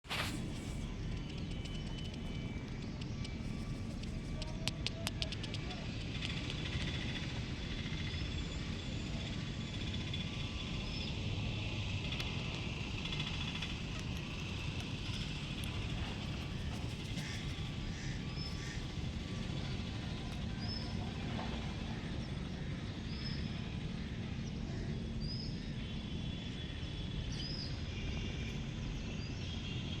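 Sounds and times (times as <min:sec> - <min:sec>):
constant high buzz: 0:00.0 - 0:30.0
low background rumble: 0:00.0 - 0:30.0.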